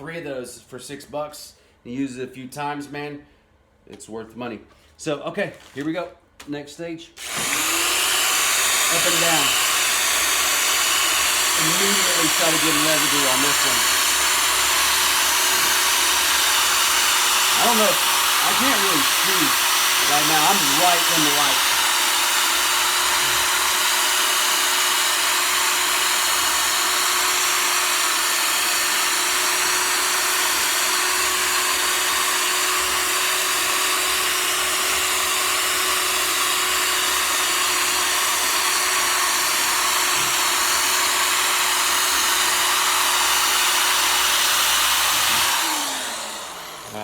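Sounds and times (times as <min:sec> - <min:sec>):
power sander whirring: 0:07.2 - 0:47.0.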